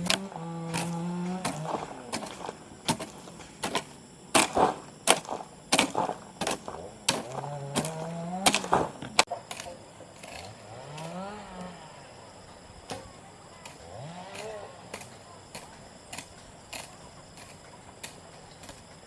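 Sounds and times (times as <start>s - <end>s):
blade chopping bamboo: 0.0s - 11.9s, 12.8s - 19.0s.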